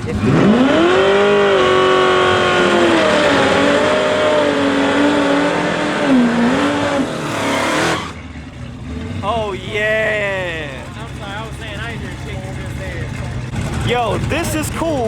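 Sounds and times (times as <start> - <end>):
drag racing engine revving: 0.0 - 15.0.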